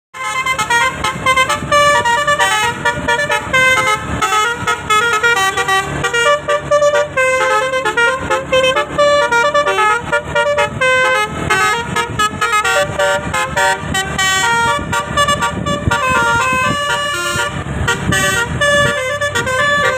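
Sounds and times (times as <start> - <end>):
multi-tone air horn melody: 0.1 - 19.9.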